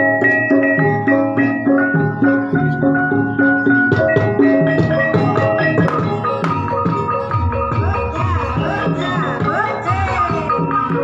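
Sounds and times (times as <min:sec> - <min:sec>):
ringing metallophones and gongs: 0:00.0 - 0:11.0
sliding melody: 0:00.0 - 0:11.0.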